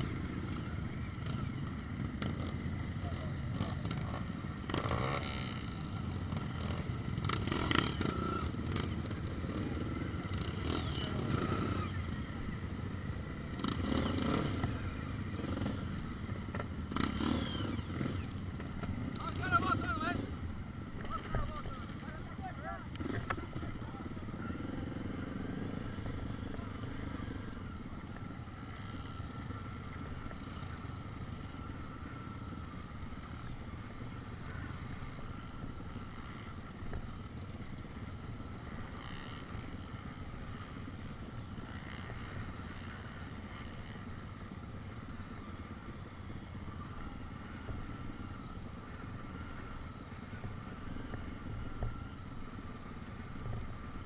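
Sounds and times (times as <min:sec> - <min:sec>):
motor vehicle engine rumble: 0:00.0 - 0:54.0.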